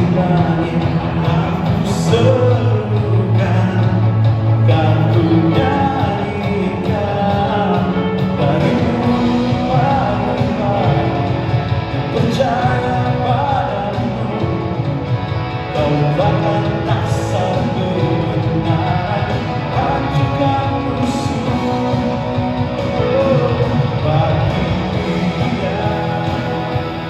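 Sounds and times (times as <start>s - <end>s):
live rock band with singer: 0.0s - 27.0s.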